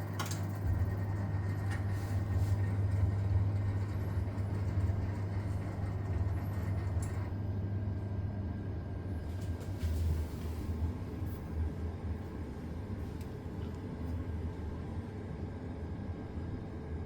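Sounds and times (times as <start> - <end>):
gas boiler low hum: 0.0 - 17.0.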